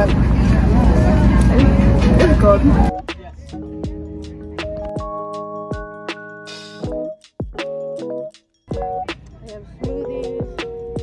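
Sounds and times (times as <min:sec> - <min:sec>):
synth chords over beat: 0:01.6 - 0:11.0.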